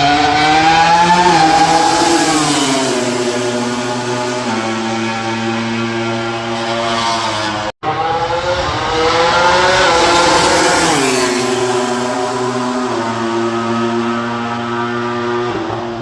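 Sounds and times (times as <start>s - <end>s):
racing motorcycle engine revving: 0.0s - 16.0s.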